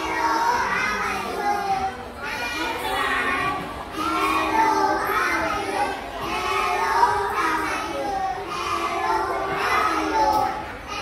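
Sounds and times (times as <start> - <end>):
children chanting in unison: 0.0 - 11.0.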